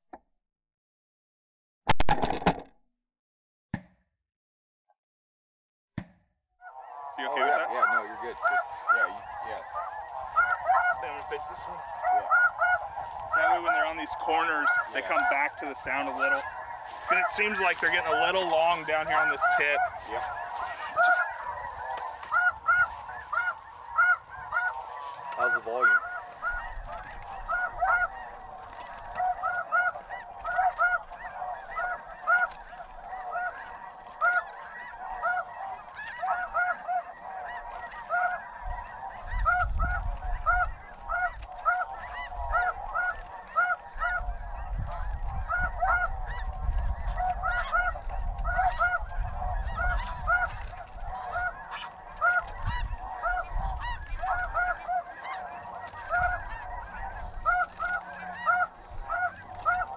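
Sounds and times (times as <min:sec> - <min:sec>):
geese honking chorus: 0:06.6 - 0:59.9.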